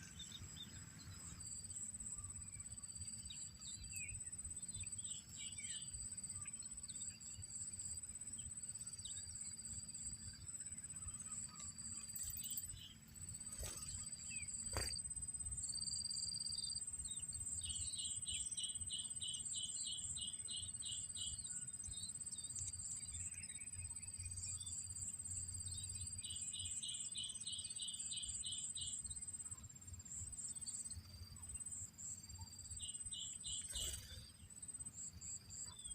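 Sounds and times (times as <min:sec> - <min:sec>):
high-pitched insect chorus: 0:00.0 - 0:35.9
rapid insect chirps: 0:00.0 - 0:35.9.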